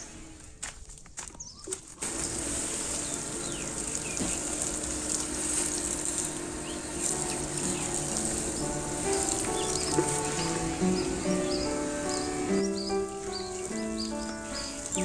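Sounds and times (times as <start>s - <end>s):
birds chirping: 0.0s - 15.0s
steady high hiss: 2.0s - 15.0s.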